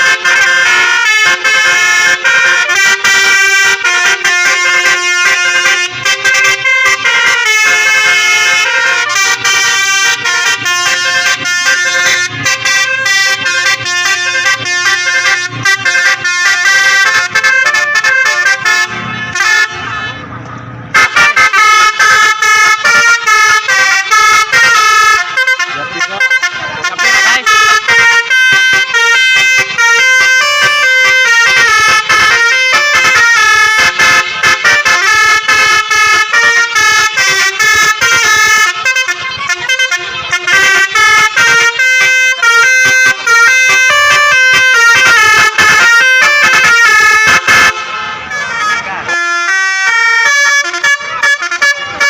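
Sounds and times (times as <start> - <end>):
bus air horn playing melody: 0.0 - 52.0.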